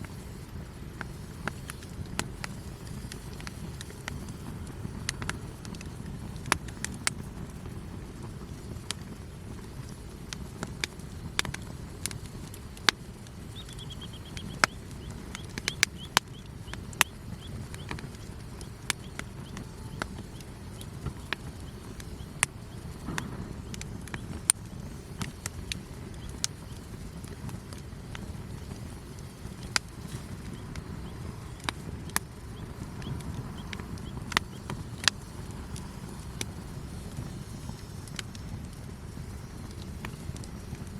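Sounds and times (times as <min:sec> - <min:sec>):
campfire wood crackling: 0:00.0 - 0:40.9
low steady rumble: 0:00.0 - 0:40.9.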